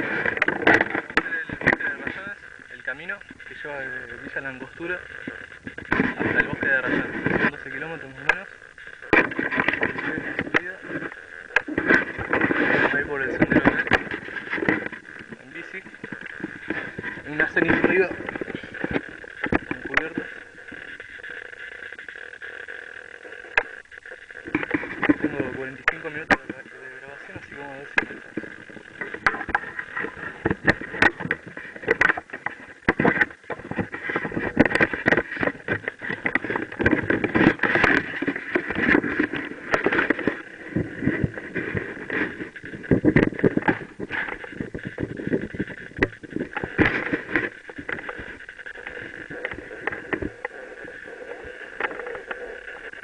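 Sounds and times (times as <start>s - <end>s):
bike knocking and rattling: 0.0s - 53.0s
bike tyres rumbling on dirt: 0.0s - 53.0s.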